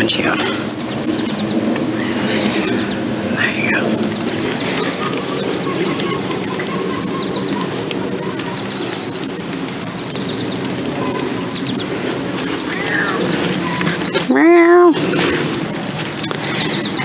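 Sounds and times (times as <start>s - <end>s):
bird chirps: 0.0s - 17.0s
constant low noise: 0.0s - 17.0s.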